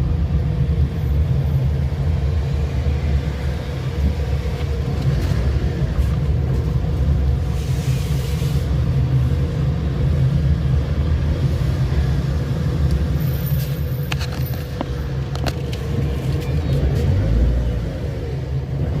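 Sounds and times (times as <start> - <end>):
car driving low rumble: 0.0 - 19.0.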